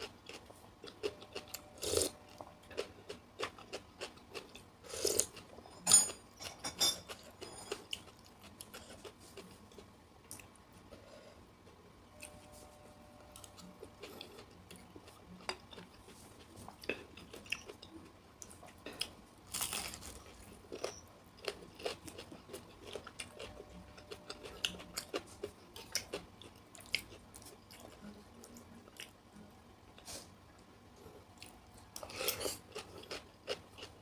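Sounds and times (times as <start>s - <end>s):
chewing crunchy vegetables: 0.0s - 5.8s, 6.5s - 10.6s, 13.4s - 29.2s, 31.2s - 34.0s.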